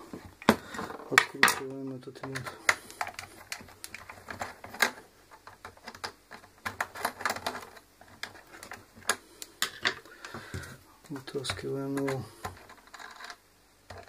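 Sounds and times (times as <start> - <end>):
hands clicking on plastic parts: 0.0 - 14.0.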